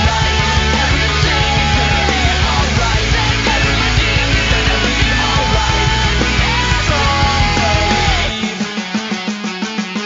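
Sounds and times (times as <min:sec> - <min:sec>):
loud rock music: 0:00.0 - 0:10.0
steady drum beat: 0:00.0 - 0:10.0.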